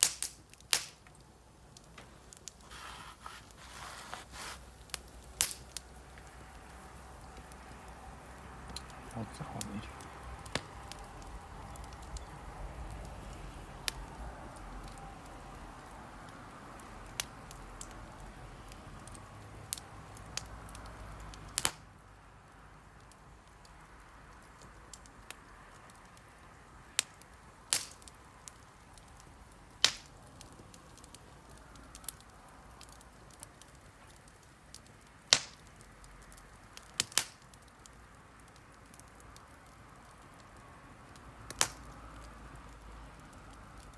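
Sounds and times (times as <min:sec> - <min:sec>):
campfire crackling and popping: 0:00.0 - 0:43.9
low steady hiss: 0:00.0 - 0:43.9.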